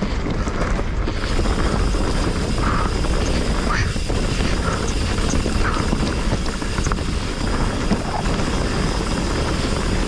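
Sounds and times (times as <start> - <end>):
bike rattles and ticks: 0.0 - 10.0
tyres rolling over dirt: 0.0 - 10.0
wind buffeting microphone: 0.0 - 10.0.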